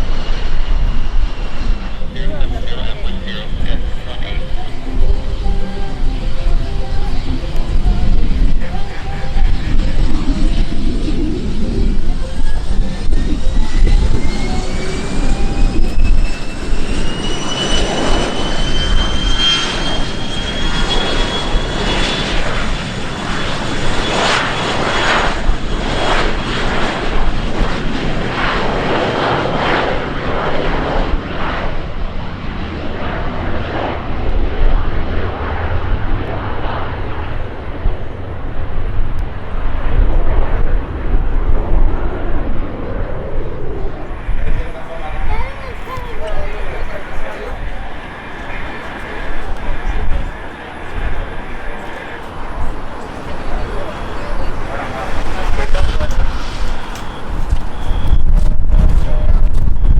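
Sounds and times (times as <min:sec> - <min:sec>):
aircraft engines passing: 0:00.0 - 0:59.9
rising engine whine: 0:00.0 - 0:59.9.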